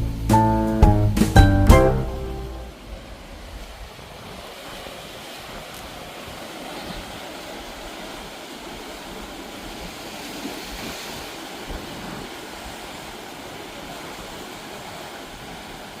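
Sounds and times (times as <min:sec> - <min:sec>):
sea surf: 0:00.0 - 0:16.0
wind buffeting microphone: 0:02.8 - 0:16.0.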